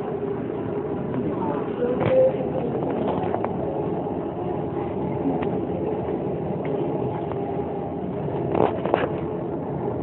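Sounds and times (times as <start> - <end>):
murmur of seated crowd: 0.0 - 10.0.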